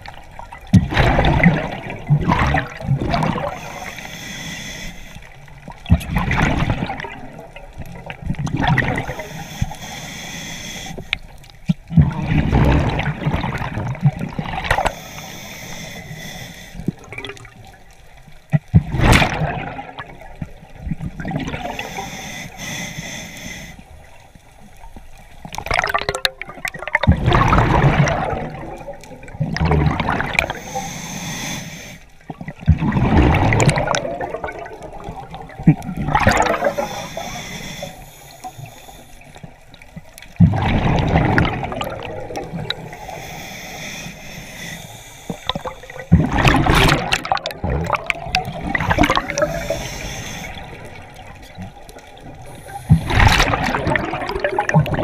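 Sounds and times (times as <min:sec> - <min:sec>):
scuba exhaust bubbles gurgling: 0:00.0 - 0:55.0.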